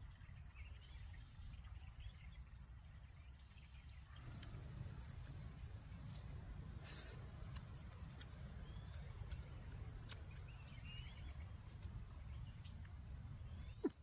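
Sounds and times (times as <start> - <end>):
faint bird chirps: 0.0 - 5.1, 5.8 - 14.0.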